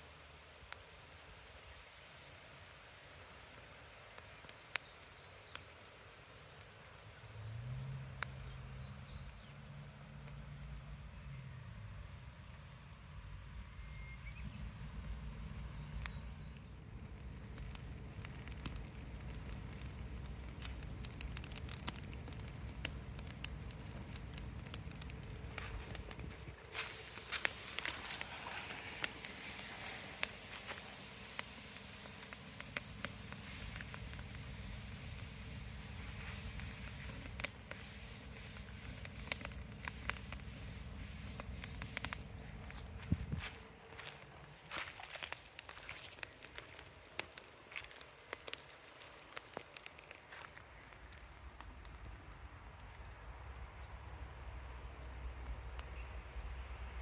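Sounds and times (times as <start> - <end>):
steady hiss: 0.0 - 52.3
wood fire crackling and popping: 2.2 - 6.8, 15.0 - 57.0.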